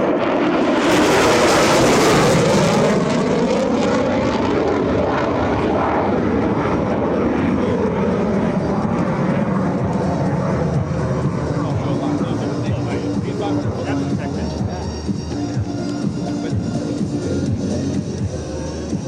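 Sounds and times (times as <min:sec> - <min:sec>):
jet engine passing: 0:00.0 - 0:19.0.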